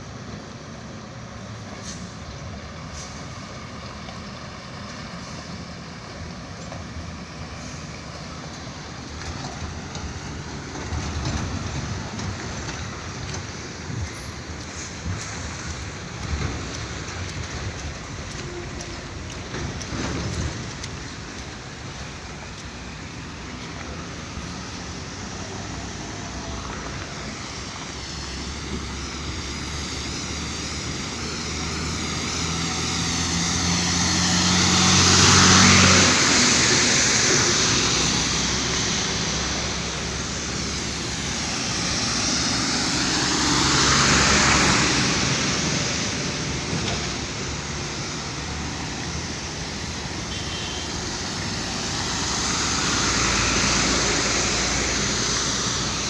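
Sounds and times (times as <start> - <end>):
low engine hum: 0.0 - 56.0
vehicles passing by: 0.0 - 56.0.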